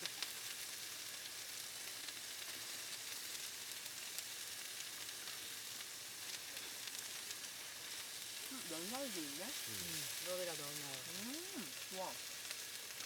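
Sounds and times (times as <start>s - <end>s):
meat sizzling: 0.0s - 13.0s.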